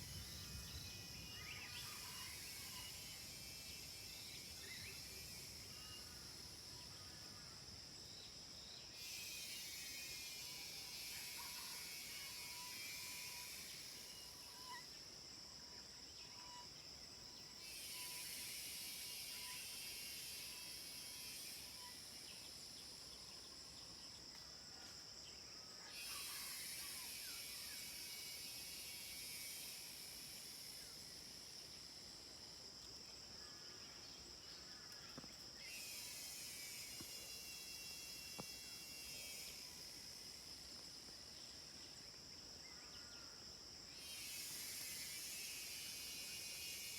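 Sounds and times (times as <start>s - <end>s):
cicadas droning: 0.0s - 46.9s.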